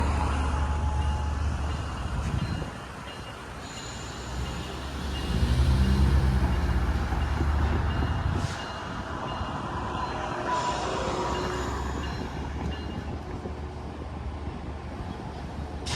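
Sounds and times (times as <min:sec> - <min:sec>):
crossing warning bell ringing: 0:00.0 - 0:13.4.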